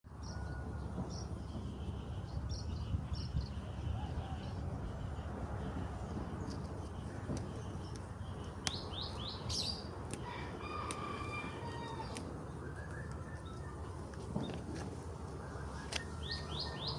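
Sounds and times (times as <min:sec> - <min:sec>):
small birds chirping: 0:01.9 - 0:16.9.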